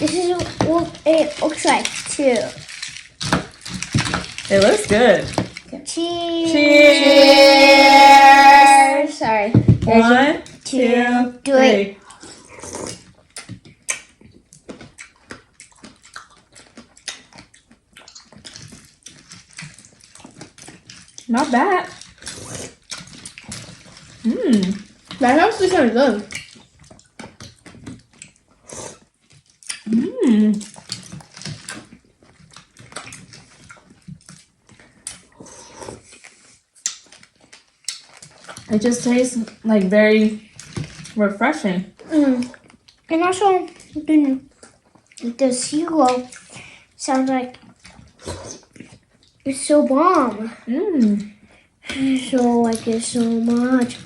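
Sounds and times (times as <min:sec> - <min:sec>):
people chewing: 0:00.0 - 0:54.0.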